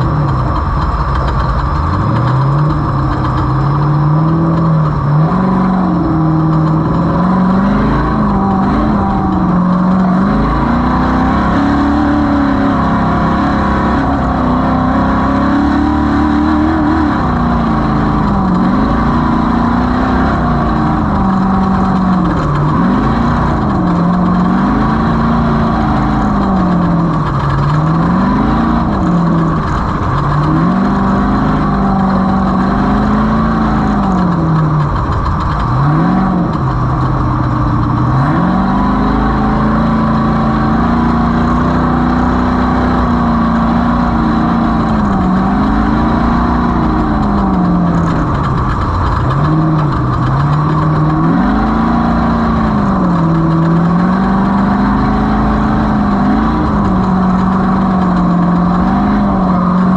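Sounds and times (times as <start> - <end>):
race vehicle engine revving: 0.0 - 59.9.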